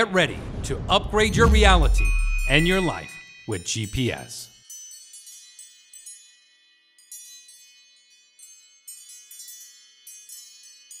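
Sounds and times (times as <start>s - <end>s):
high-pitched chimes: 1.4s - 11.0s.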